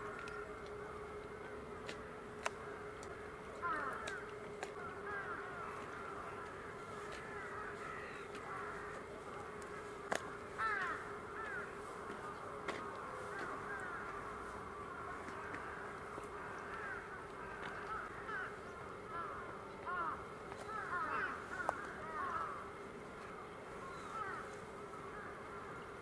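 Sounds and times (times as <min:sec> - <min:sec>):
birds calling: 0:00.0 - 0:26.0
low hum: 0:00.0 - 0:26.0.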